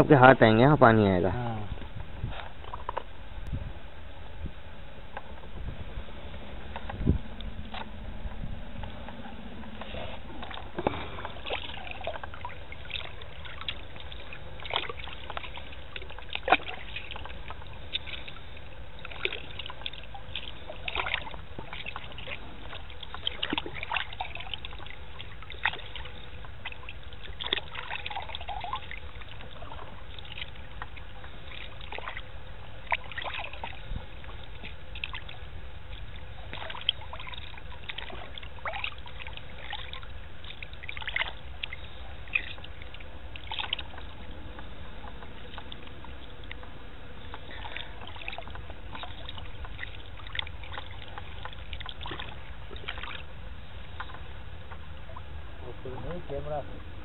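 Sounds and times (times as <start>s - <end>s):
water splashing and trickling: 0.0s - 3.2s, 5.2s - 57.0s
low background rumble: 0.0s - 57.0s.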